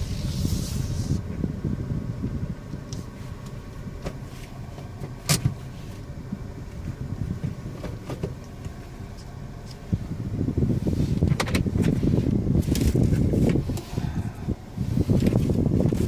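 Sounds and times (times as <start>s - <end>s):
faint steady whine: 0.0s - 16.0s
road and engine rumble: 0.0s - 16.0s.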